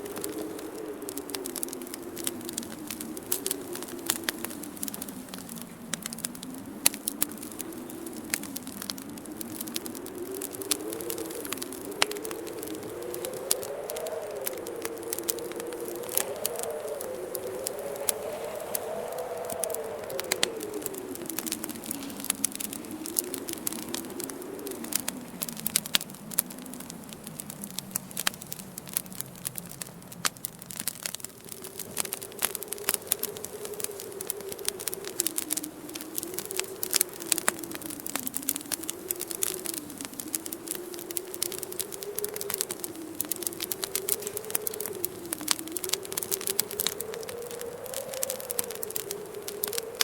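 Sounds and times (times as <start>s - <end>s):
low moaning wind: 0.0s - 50.0s
wood fire crackling and popping: 0.0s - 50.0s.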